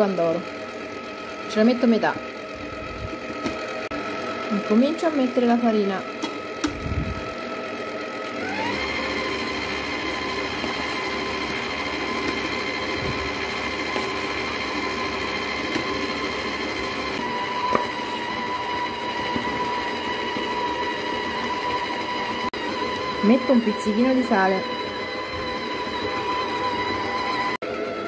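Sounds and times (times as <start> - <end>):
stand mixer motor whine: 0.0 - 28.0.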